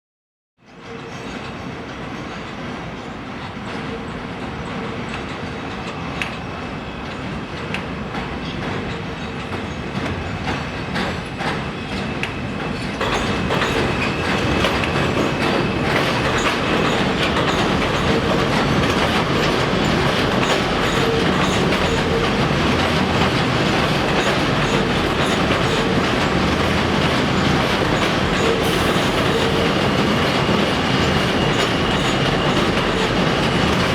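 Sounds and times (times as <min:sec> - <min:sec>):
subway train running: 0:00.6 - 0:33.9.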